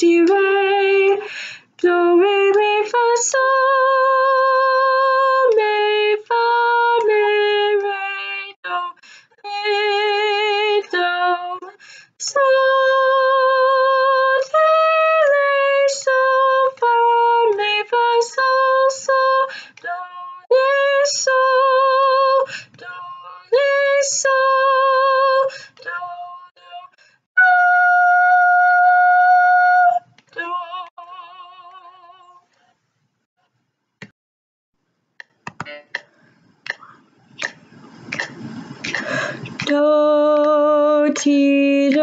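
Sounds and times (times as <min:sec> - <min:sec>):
woman singing solfege: 0:00.0 - 0:32.5, 0:38.8 - 0:42.0.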